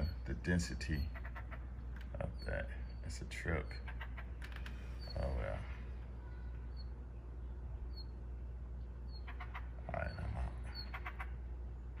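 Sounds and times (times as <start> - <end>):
small bird chirping: 0.0 - 12.0
steady low hum: 0.0 - 12.0.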